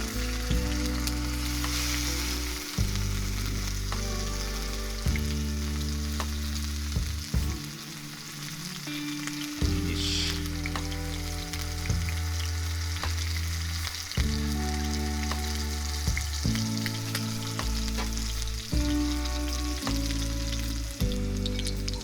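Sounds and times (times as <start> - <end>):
background music with low chords: 0.0 - 22.0
steak sizzling in a skillet: 0.0 - 22.0.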